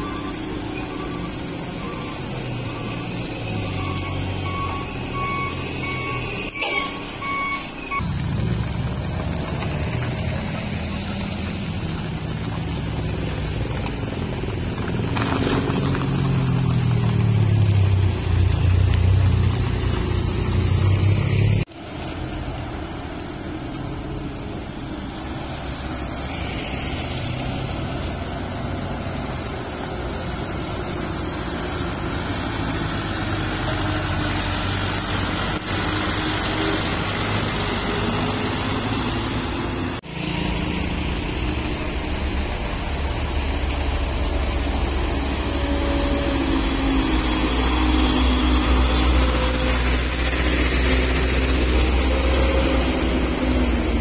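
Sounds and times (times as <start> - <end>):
diesel engines running low: 0.0 - 54.0
trucks passing slowly: 0.0 - 54.0.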